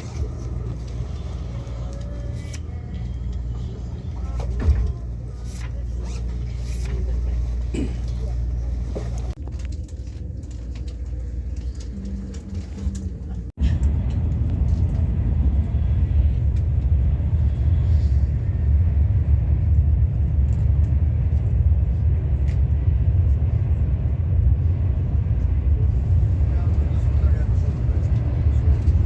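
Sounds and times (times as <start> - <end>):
train rumble inside carriage: 0.0 - 29.0.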